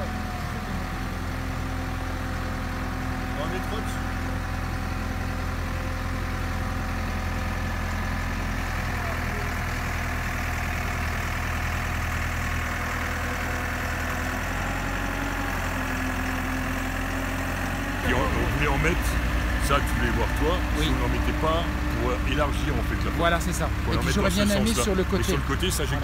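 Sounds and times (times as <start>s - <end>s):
diesel engine running low revs: 0.0s - 26.0s.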